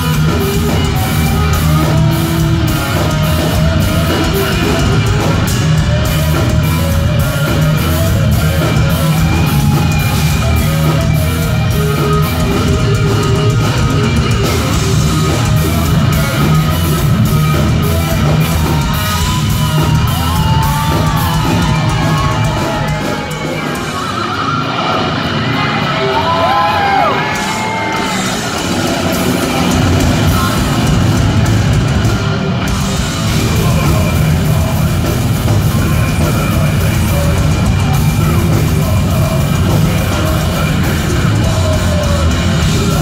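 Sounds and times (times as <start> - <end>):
lead guitar bending: 0.0 - 26.4, 27.0 - 43.0
bass guitar: 0.0 - 43.0
distorted electric guitars: 0.0 - 43.0
fast drumming: 0.0 - 43.0.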